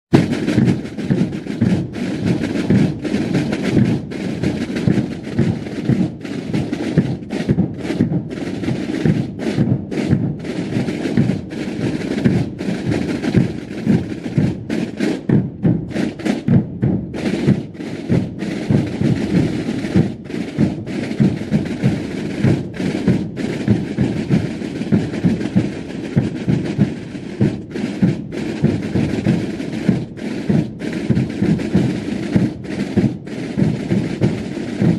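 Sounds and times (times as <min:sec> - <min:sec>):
massed drums marching beat: 0:00.1 - 0:34.9.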